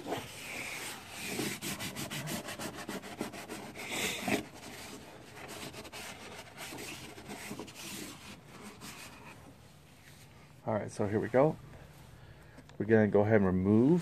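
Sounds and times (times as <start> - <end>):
cloth wiping and rubbing: 0.0 - 11.6.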